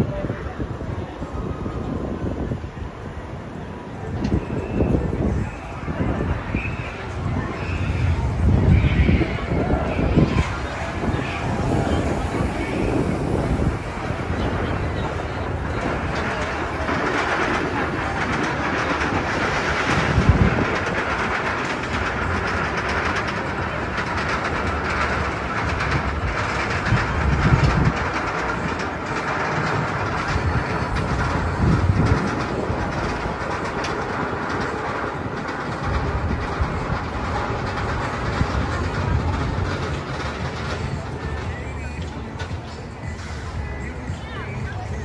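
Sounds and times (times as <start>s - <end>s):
amusement park rides clattering: 0.0s - 45.0s
loud low rumbles: 0.0s - 45.0s.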